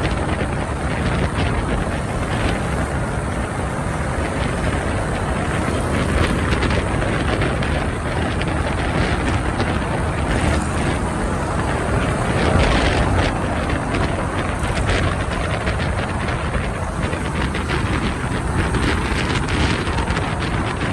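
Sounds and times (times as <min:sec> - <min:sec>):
motorbike engine rumble: 0:00.0 - 0:20.9.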